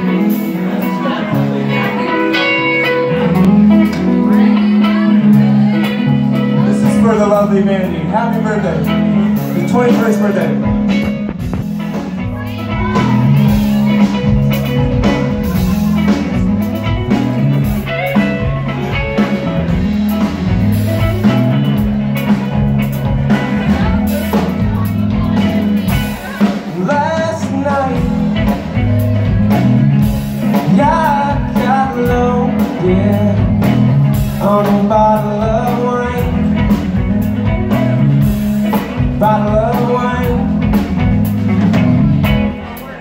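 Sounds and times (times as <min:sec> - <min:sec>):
bass riff: 0:00.0 - 0:43.0
drum kit: 0:00.0 - 0:43.0
electric guitar with string bends: 0:00.0 - 0:43.0.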